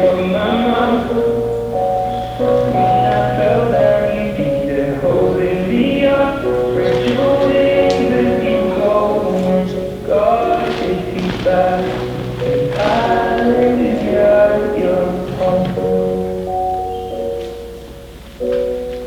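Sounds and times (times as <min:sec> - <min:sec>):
choir-like voices holding chords: 0:00.0 - 0:19.0
slow ballad: 0:00.0 - 0:19.0.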